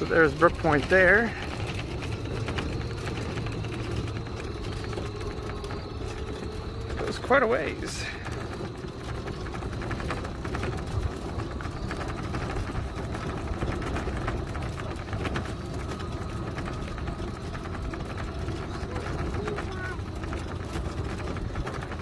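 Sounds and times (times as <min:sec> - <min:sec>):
rattle of small clicks: 0:00.0 - 0:22.0
vehicle rumbling: 0:00.0 - 0:22.0.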